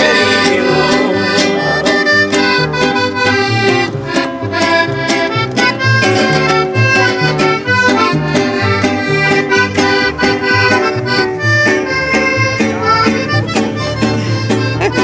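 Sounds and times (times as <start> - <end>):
accordion folk music: 0.0 - 15.0.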